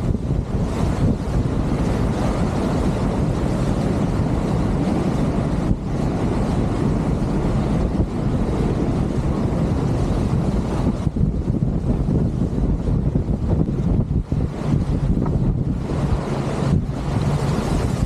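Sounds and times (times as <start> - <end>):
water rushing along hulls: 0.0 - 18.0
wind buffeting microphone: 0.0 - 18.0.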